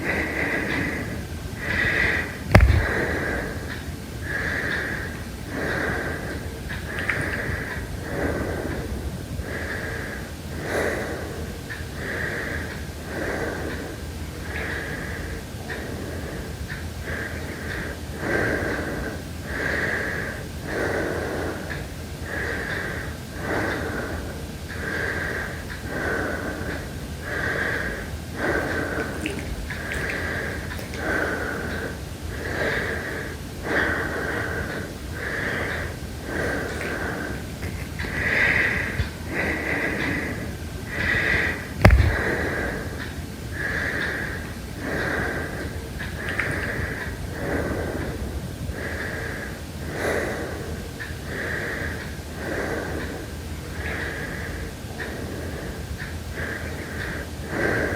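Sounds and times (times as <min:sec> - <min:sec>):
heavy breathing: 0:00.0 - 0:57.9.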